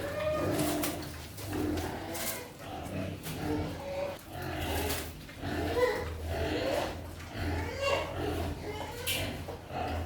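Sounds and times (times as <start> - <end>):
farm animals calling: 0.0 - 10.0.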